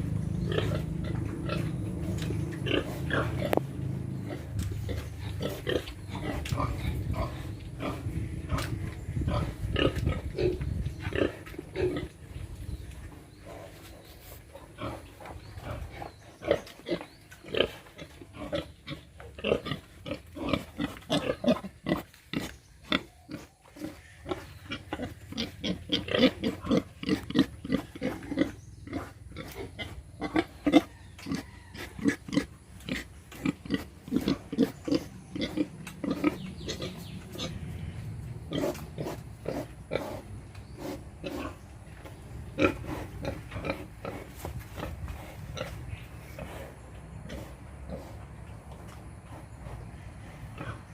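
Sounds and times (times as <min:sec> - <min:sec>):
pigs grunting: 0:00.0 - 0:12.3, 0:13.3 - 0:50.9.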